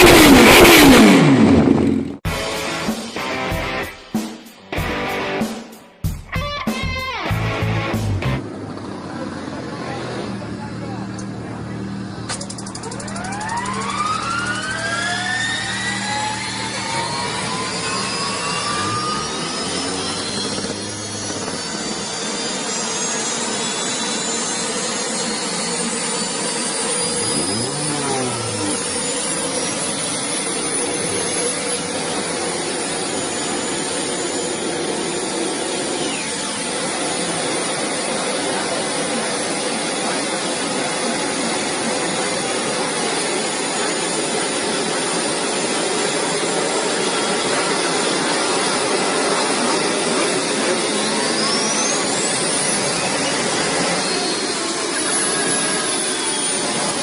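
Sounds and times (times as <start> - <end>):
engine whine rising: 0.0 - 57.0.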